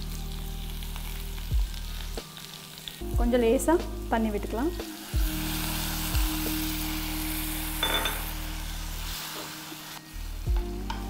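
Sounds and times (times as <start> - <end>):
food sizzling in oil: 0.0 - 11.0
soft background music: 0.0 - 11.0.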